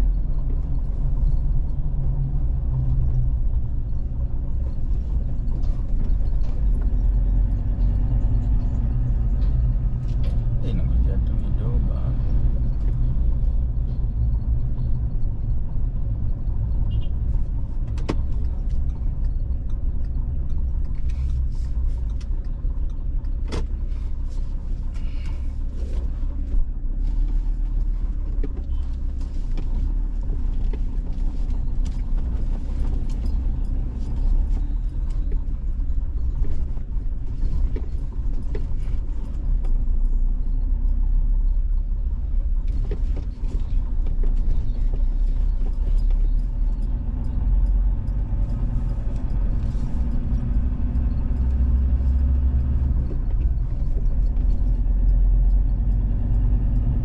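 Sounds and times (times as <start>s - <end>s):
vehicle driving on road: 0.0s - 57.0s.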